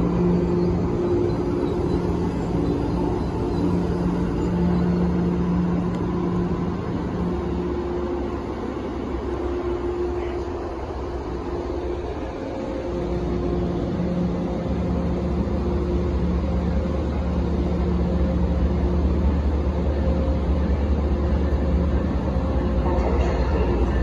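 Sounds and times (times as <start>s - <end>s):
train engine rumbling and humming: 0.0s - 24.0s.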